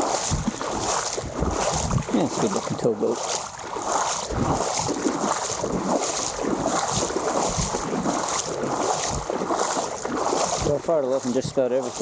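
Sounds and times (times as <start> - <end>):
water washing along hull: 0.0 - 12.0
wind buffeting microphone: 0.0 - 12.0.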